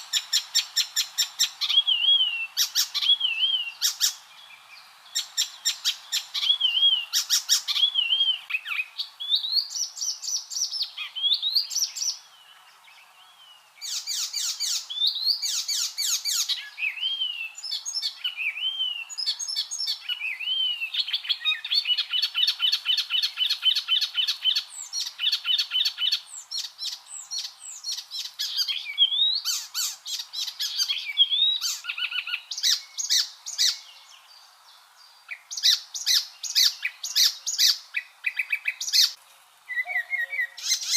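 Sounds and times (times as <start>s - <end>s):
warbler singing: 0.0s - 40.9s.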